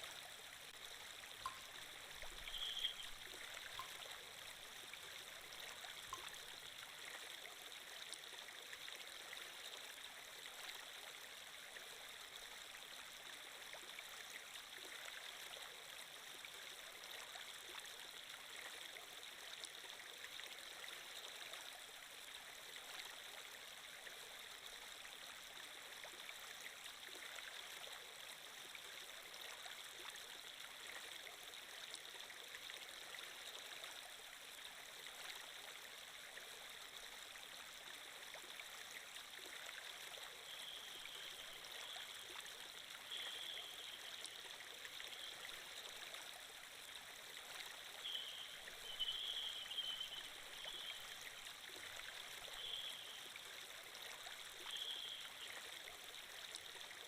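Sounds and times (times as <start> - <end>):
faint flowing water: 0.0 - 57.0.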